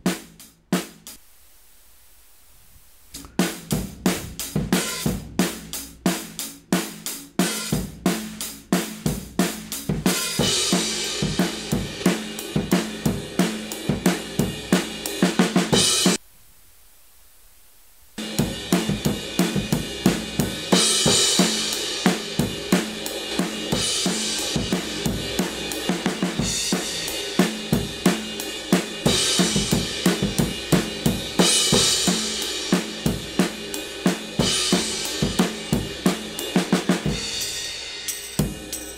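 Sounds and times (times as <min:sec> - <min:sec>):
drum track: 0:00.0 - 0:16.2, 0:18.2 - 0:38.9.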